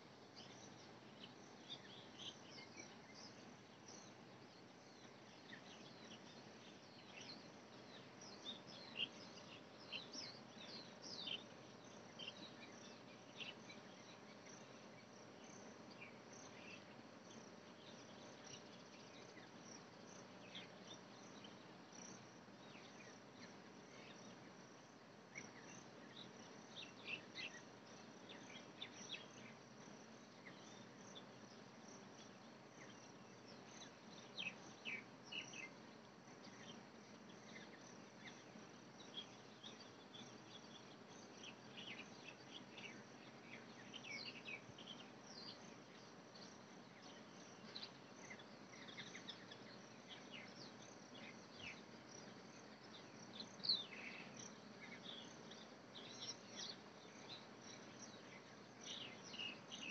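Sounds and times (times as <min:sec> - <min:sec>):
insects trilling: 0:00.0 - 0:59.9
low background hum: 0:00.0 - 0:59.9.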